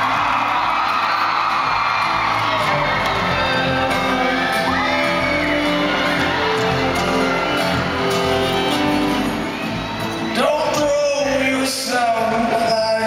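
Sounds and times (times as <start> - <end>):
acoustic guitar: 0.0 - 13.0
crowd whooping: 0.0 - 13.0.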